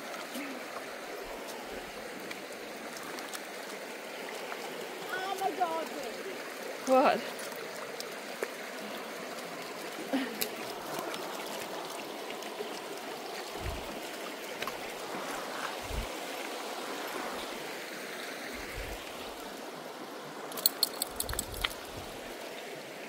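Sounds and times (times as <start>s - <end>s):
creek running over rocks: 0.0s - 23.0s.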